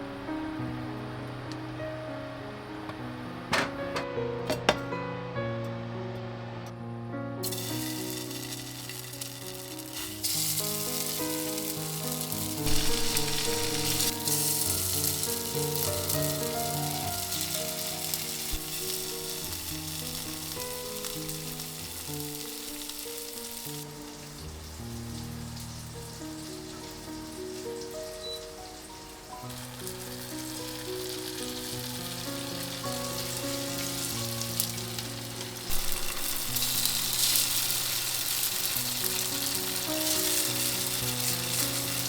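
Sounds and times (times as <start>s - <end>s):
background music: 0.0s - 24.0s, 25.0s - 42.0s
food sizzling in frying pan: 7.4s - 42.0s.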